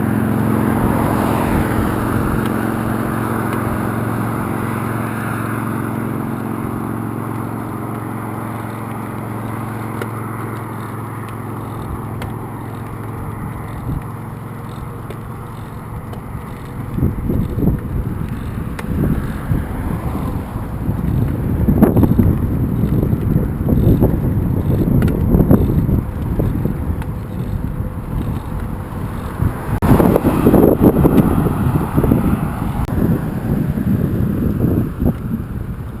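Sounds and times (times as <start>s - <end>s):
vehicle hum and tyre noise: 0.0s - 36.0s
wind buffeting microphone: 0.0s - 36.0s.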